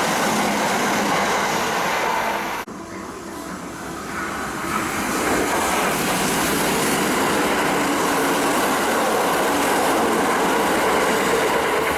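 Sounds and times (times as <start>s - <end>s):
electric train passing at speed: 0.0s - 11.9s.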